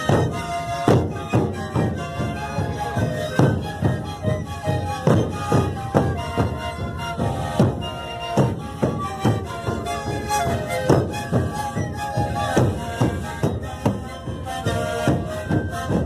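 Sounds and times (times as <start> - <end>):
panpipes playing breathy melody: 0.0 - 16.0.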